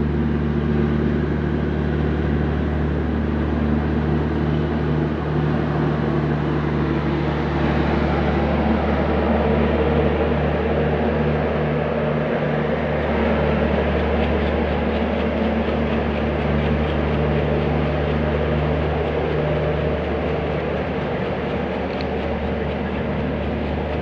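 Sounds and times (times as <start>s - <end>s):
train running drone: 0.0s - 24.0s
wheels rumbling on rails: 0.0s - 24.0s.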